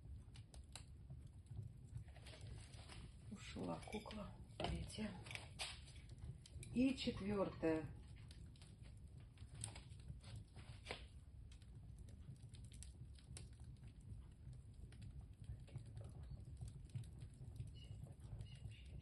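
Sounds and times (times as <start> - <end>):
small fire crackling: 0.0 - 19.0.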